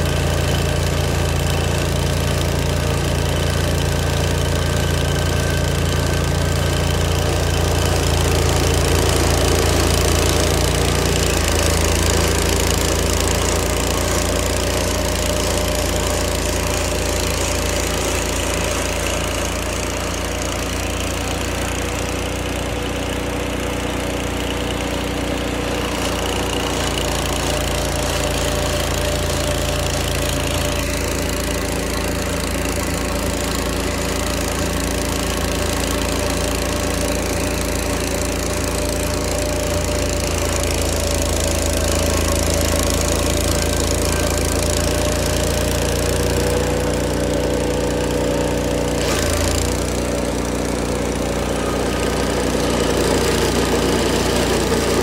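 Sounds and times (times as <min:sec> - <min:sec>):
stump grinder engine running: 0:00.0 - 0:55.0.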